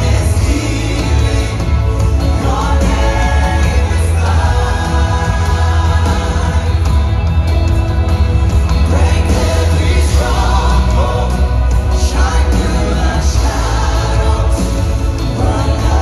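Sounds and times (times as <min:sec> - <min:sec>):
keyboard: 0:00.0 - 0:16.0
several people singing: 0:00.0 - 0:16.0
steady bass: 0:00.0 - 0:16.0.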